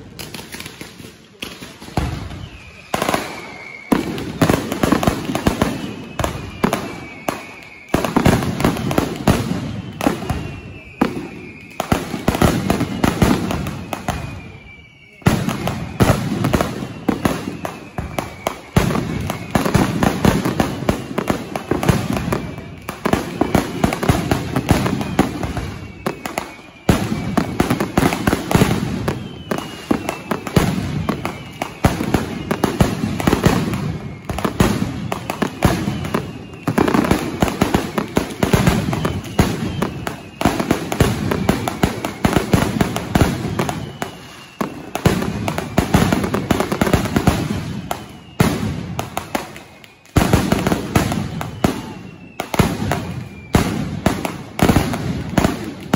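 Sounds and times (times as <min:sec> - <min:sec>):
rapid firecracker bangs: 0:00.0 - 0:14.5, 0:15.1 - 0:55.9
falling whistles: 0:00.1 - 0:55.9.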